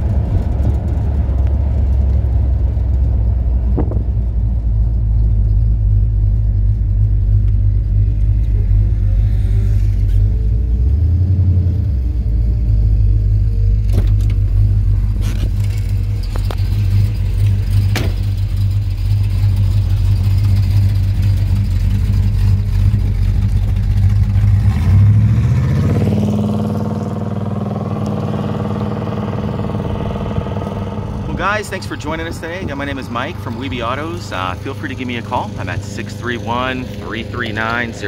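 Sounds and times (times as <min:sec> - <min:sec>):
car exhaust rumbling and revving: 0:00.0 - 0:38.0.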